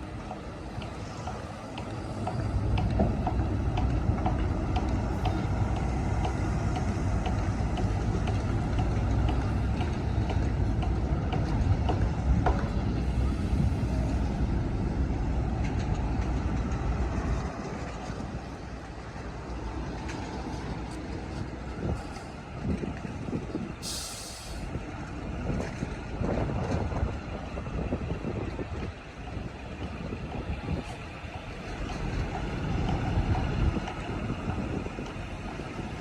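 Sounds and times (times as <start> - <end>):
heavy diesel machinery rumbling: 0.0 - 36.0.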